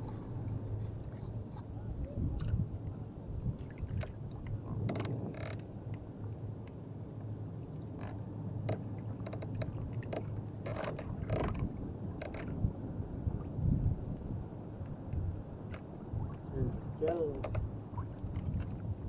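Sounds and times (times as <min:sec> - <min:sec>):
steady low rumble: 0:00.0 - 0:19.0
water lapping against hull: 0:00.0 - 0:19.0.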